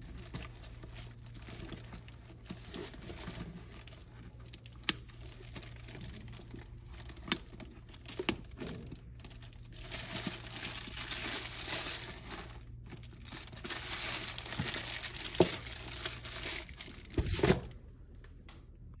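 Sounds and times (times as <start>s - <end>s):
plastic wrapping crinkling: 0.0s - 18.4s.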